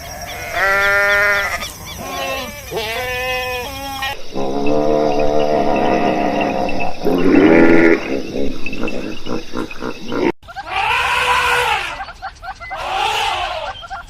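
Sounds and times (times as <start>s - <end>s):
farm animal calls: 0.0s - 14.0s.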